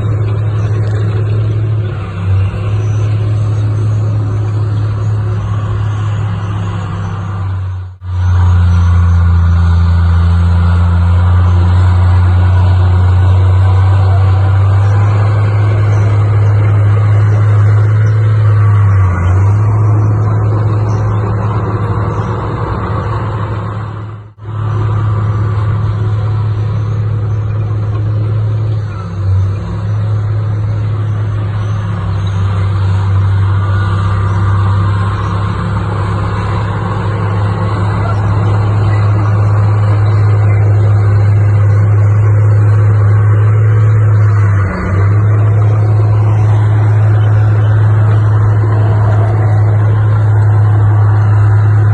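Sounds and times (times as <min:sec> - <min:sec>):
heavy diesel engine droning: 0:00.0 - 0:51.9.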